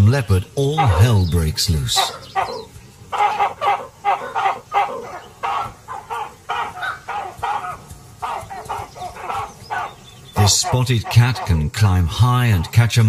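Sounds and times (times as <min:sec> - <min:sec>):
baboons barking and screaming: 0:00.0 - 0:13.0.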